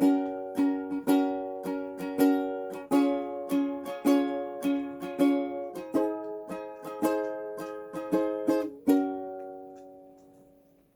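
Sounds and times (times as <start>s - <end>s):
acoustic strummed chords: 0.0s - 10.9s.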